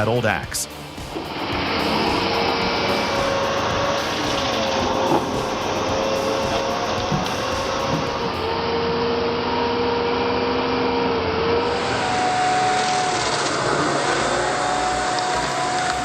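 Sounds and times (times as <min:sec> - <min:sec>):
heavy machinery engine whining: 0:00.7 - 0:16.0.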